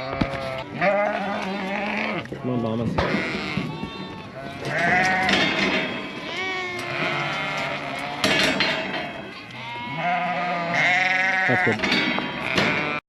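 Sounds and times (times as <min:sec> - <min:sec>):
sheep bleating: 0:00.0 - 0:02.4, 0:03.0 - 0:05.5, 0:06.1 - 0:13.0.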